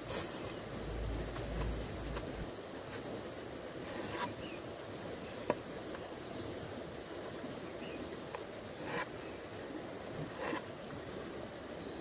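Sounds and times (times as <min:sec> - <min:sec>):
river flowing: 0:00.0 - 0:12.0.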